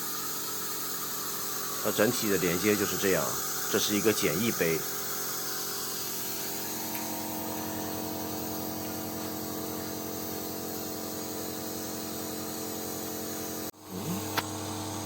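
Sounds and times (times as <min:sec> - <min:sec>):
air hissing: 0:00.0 - 0:14.8
compressor machine hum: 0:00.0 - 0:15.0.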